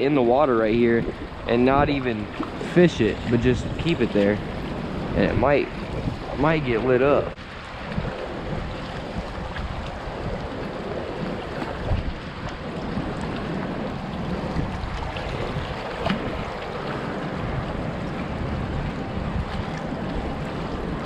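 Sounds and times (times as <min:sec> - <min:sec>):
rushing floodwater: 0:00.0 - 0:21.0
wind buffeting microphone: 0:00.0 - 0:21.0.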